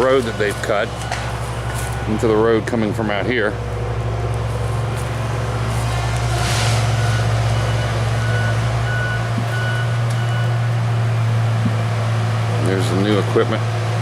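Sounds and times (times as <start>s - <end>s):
distant backup alarm beeping: 0.0s - 12.5s
low engine-like hum: 0.0s - 14.0s.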